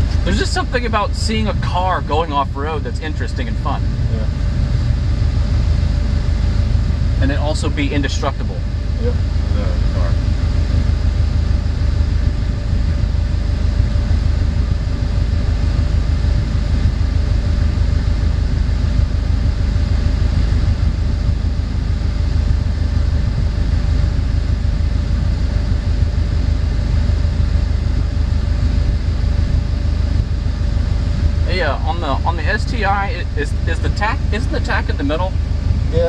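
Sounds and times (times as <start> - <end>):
car engine idling: 0.0 - 36.0
thin steady hum: 0.0 - 36.0.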